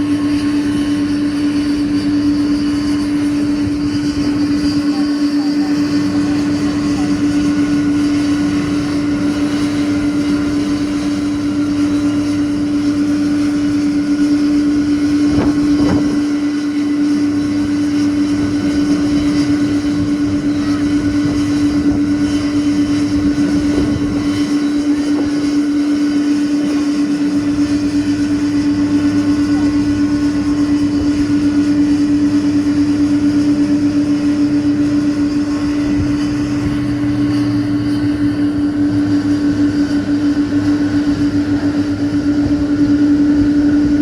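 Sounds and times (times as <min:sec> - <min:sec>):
jet engines humming: 0:00.0 - 0:44.0.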